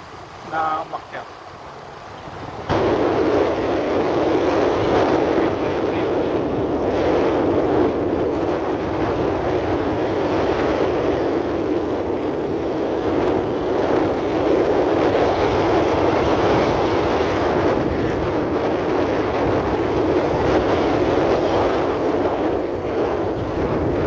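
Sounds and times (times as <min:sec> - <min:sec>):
moving vehicle with wind noise: 0:00.0 - 0:24.0.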